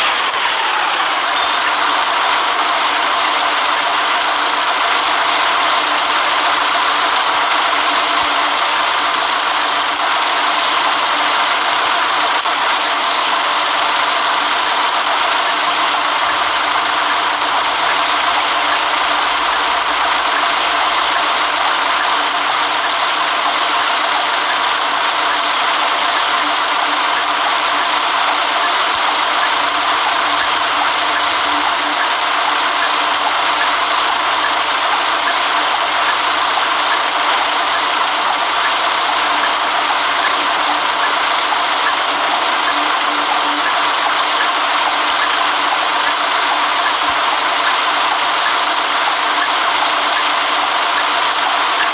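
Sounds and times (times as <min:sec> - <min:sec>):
bus engine and road noise: 0:00.0 - 0:44.0.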